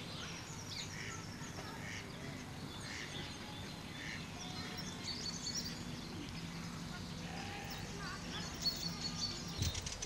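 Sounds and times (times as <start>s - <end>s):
low background noise: 0.0s - 10.0s
small birds chirping: 0.0s - 10.0s.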